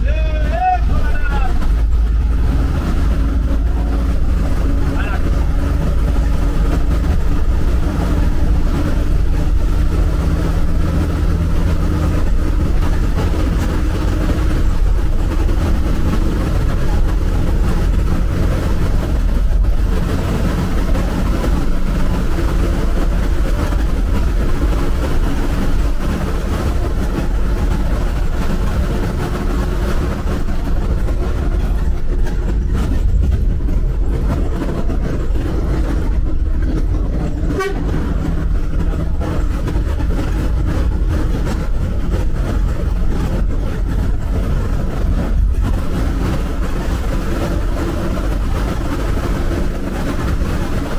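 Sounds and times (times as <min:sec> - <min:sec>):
bus engine running: 0:00.0 - 0:50.9
road and tyre noise: 0:00.0 - 0:50.9.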